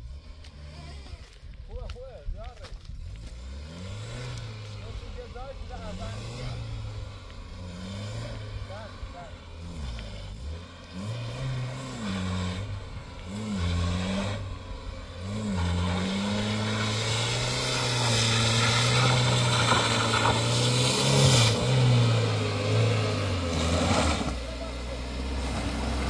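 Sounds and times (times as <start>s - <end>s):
vehicle engine revving: 0.0s - 26.0s.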